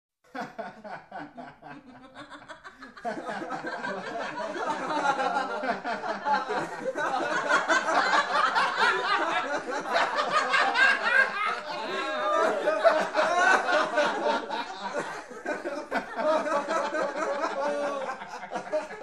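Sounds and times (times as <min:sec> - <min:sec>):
group of people laughing: 0:00.3 - 0:19.0.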